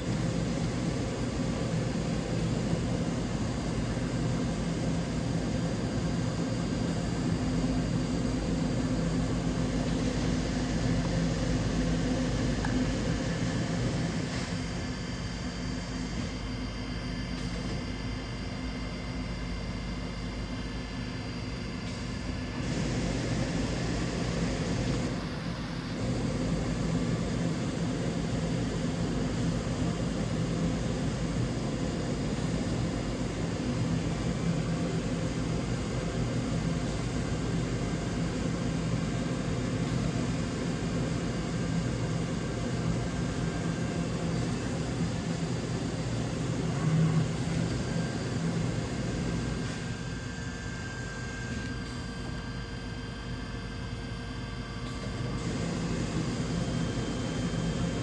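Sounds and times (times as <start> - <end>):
machine hum with low tone: 0.0 - 58.0.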